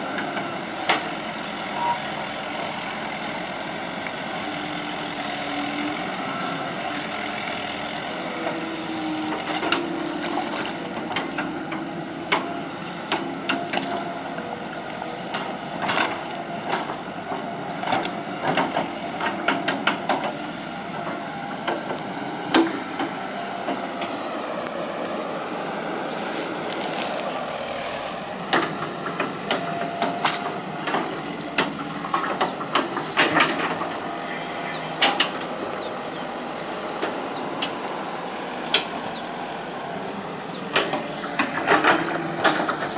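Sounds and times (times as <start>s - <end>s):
excavator knocks and clanks: 0.0s - 6.4s, 7.0s - 24.2s, 28.2s - 39.8s, 40.5s - 42.9s
excavator diesel engine running: 0.0s - 42.9s.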